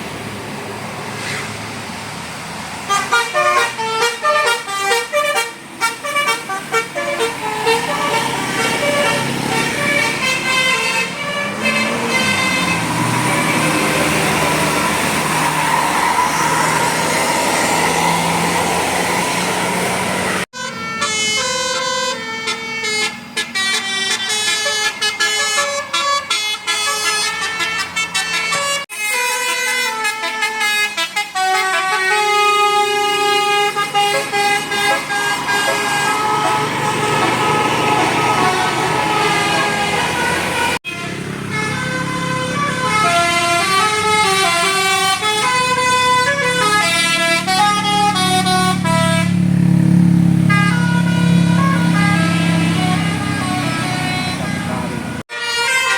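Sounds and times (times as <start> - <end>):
bus engine noise: 0.0 - 55.9
multi-tone bus horns playing melodies: 1.0 - 2.0, 2.7 - 55.9.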